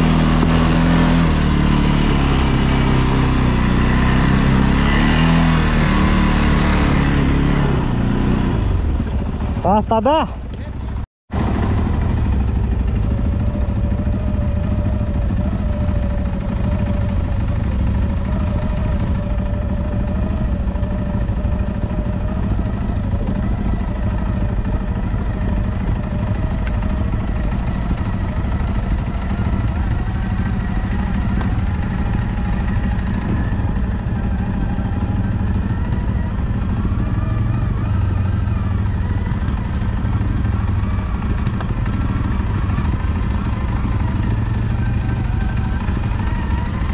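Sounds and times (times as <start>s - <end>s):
atv engine running at low revs: 0.0s - 46.9s.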